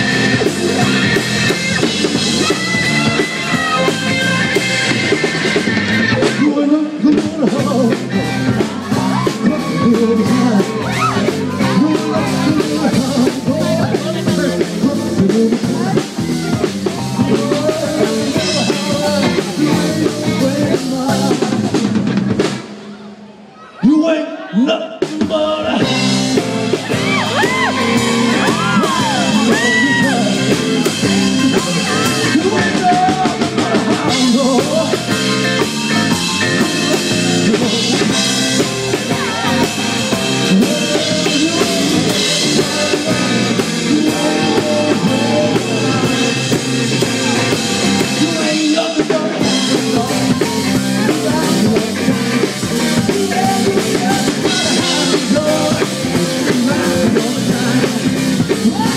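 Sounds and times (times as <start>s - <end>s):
rock band playing: 0.0s - 23.2s, 25.0s - 58.9s
man singing lead vocal: 6.0s - 22.0s, 23.8s - 58.9s.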